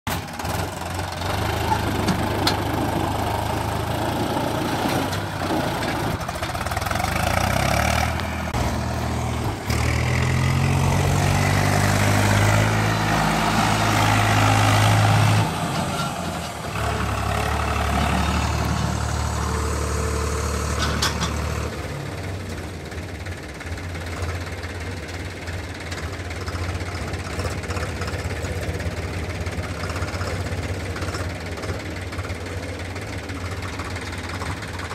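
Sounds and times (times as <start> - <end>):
diesel tractor engine revving: 0.1 - 34.9.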